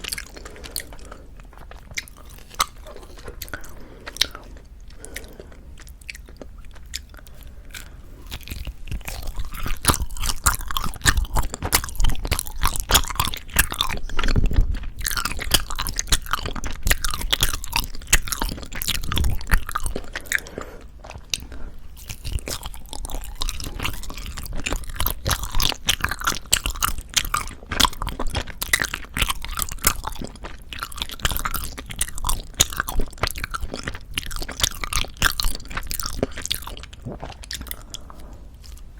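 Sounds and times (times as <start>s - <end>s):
chewing sticky food: 0.0s - 38.9s.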